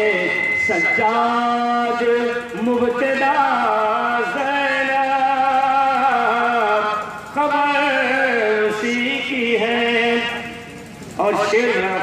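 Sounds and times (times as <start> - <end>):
man chanting a slow melody: 0.0 - 10.6, 11.2 - 12.0.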